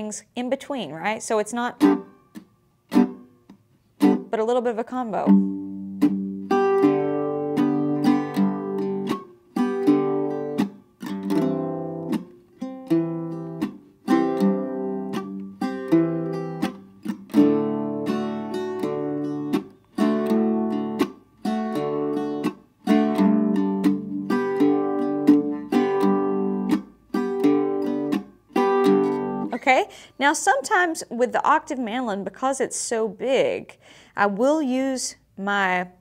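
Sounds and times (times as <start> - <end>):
mandolin strumming chords: 1.6 - 31.5.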